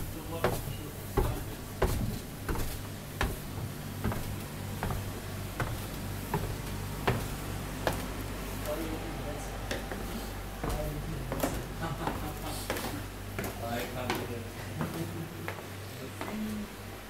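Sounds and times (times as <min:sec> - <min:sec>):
footsteps on wooden stairs: 0:00.0 - 0:09.0, 0:09.6 - 0:16.6
low steady hum: 0:00.0 - 0:17.0.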